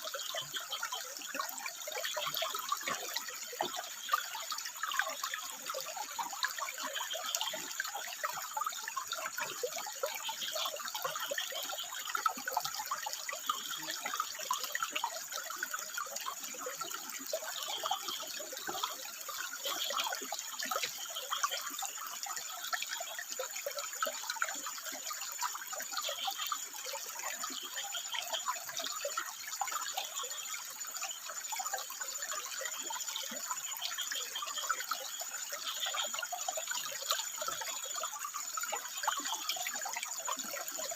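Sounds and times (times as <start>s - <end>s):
water trickling over rocks: 0.0s - 40.9s.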